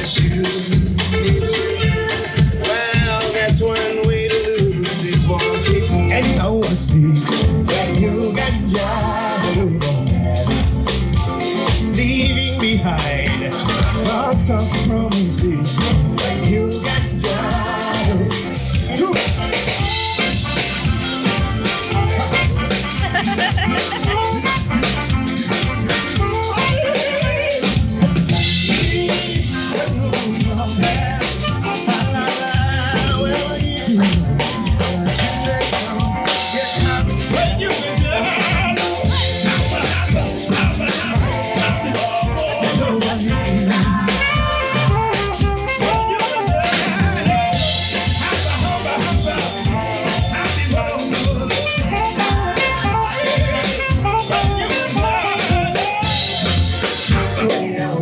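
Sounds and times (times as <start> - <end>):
drum kit beat: 0.0 - 58.0
live band playing: 0.0 - 58.0.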